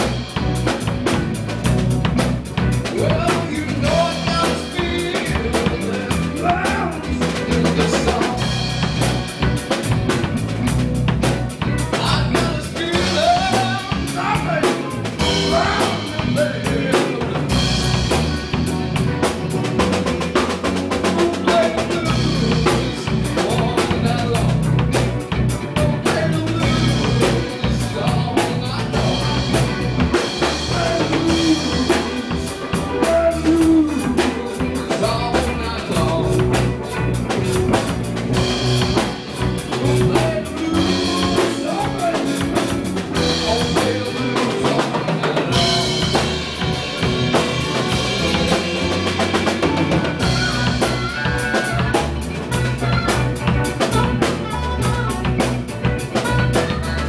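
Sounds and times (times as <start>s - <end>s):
electric guitar: 0.0s - 57.0s
live blues band: 0.0s - 57.0s.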